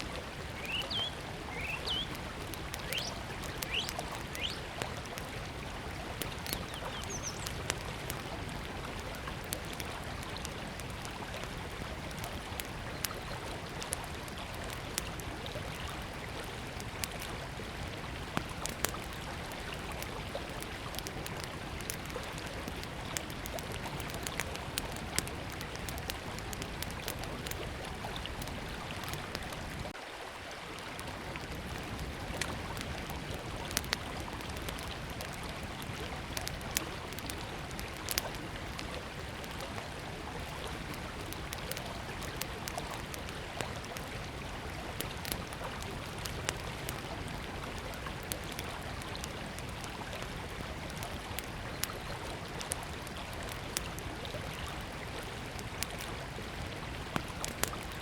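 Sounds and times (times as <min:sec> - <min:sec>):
wood fire crackling: 0:00.0 - 0:30.0, 0:30.7 - 0:58.0
river flowing: 0:00.0 - 0:58.0.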